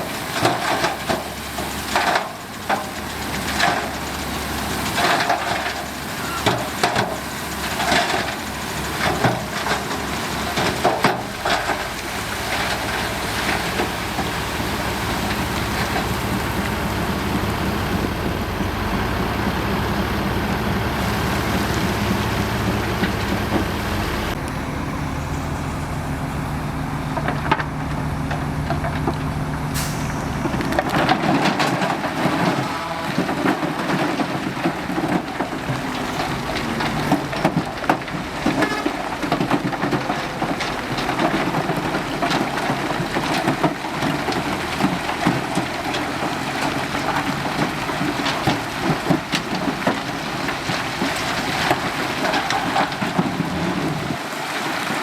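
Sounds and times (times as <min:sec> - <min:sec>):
diesel machinery engine drone: 0:00.0 - 0:55.0
soil and rock crunching: 0:00.0 - 0:55.0.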